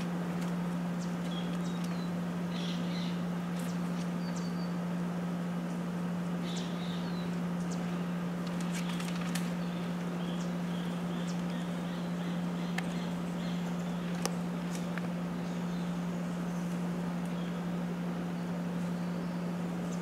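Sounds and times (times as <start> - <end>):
low machine hum: 0.0 - 20.0
bird chirps: 0.8 - 4.9, 5.6 - 20.0.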